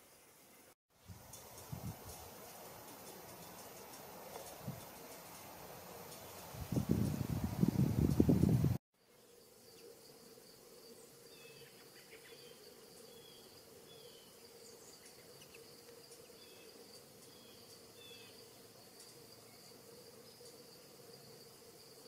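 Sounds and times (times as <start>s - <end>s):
high-pitched insect trill: 1.0s - 22.0s.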